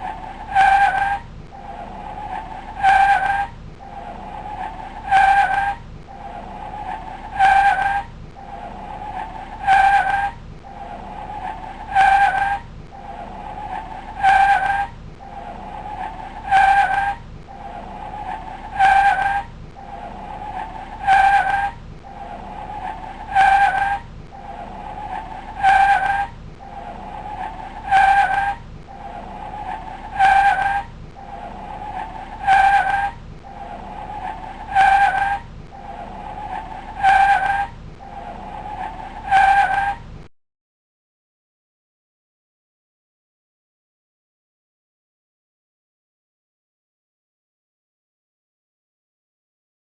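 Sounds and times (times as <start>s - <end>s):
squealing tone: 0.0s - 40.1s.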